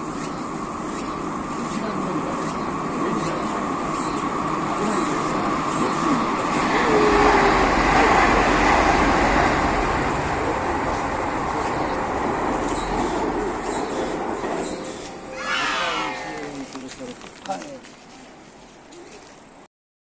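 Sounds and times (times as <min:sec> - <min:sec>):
train rail noise: 0:00.0 - 0:19.7.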